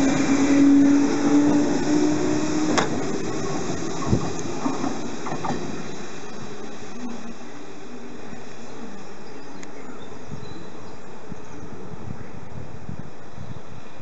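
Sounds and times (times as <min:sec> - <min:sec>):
electric train motor hum: 0:00.0 - 0:12.8
train rolling noise: 0:00.0 - 0:14.0.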